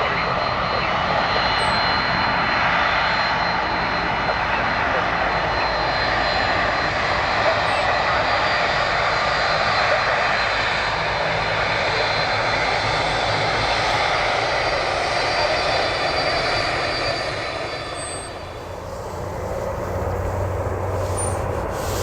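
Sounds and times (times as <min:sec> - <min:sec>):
airliner engines roaring: 0:00.0 - 0:22.0
high engine whine: 0:00.0 - 0:22.0.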